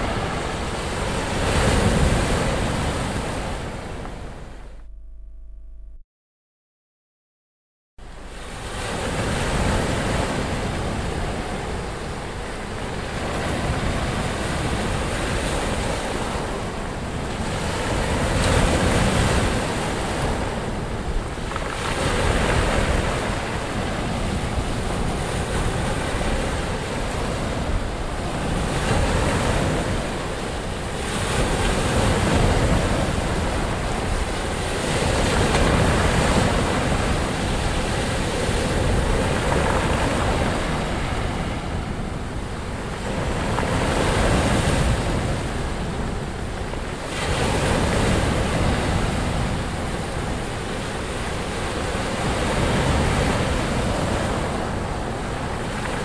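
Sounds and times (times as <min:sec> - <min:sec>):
sea waves crashing: 0:00.0 - 0:04.7, 0:08.1 - 0:56.0.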